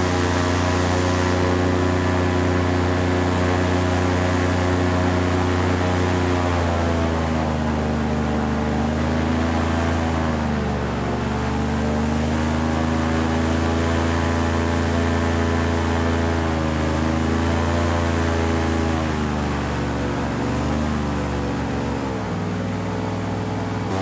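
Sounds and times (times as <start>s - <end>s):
airboat engine and propeller: 0.0s - 24.0s.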